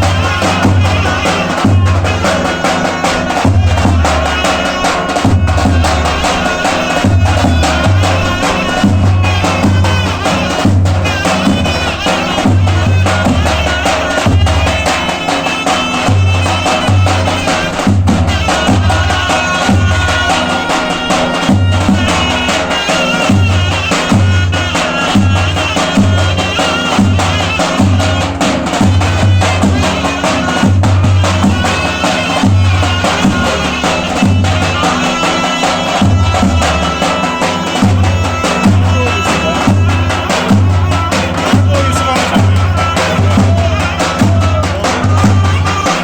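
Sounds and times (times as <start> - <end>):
reedy wind instrument melody: 0.0 - 46.0
steady drum beat: 0.0 - 46.0.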